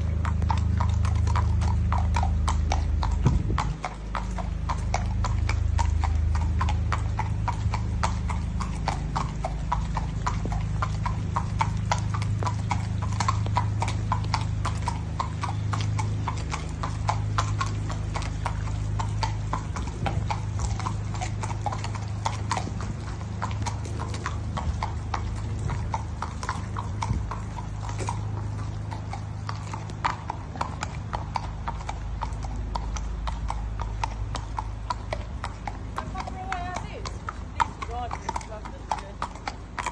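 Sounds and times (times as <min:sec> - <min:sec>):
low rumble: 0:00.0 - 0:38.5
hooves clip-clop on concrete: 0:00.0 - 0:39.9.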